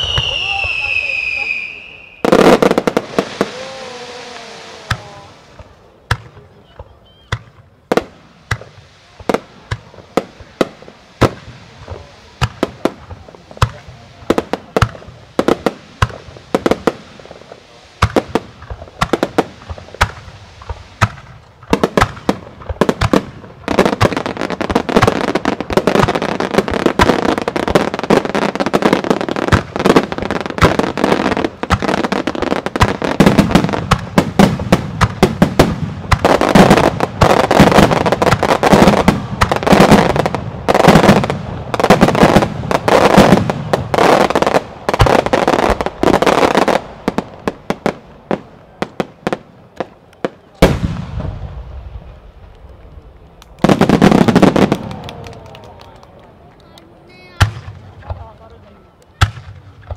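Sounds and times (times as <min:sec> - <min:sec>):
fireworks barrage with crackling: 0:00.0 - 0:59.9.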